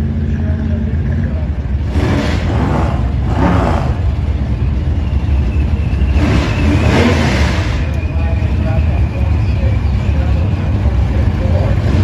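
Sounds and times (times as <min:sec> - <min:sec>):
hot rod engine revving: 0:00.0 - 0:12.0.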